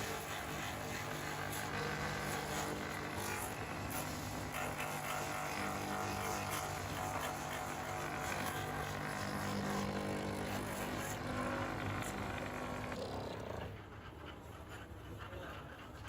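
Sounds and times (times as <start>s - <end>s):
machine humming and whirring: 0.0s - 13.9s.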